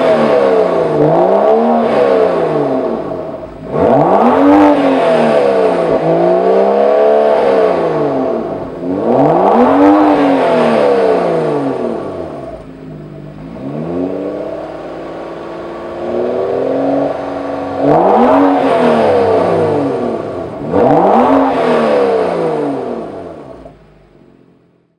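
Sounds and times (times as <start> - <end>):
car engine revving: 0.0 - 24.6.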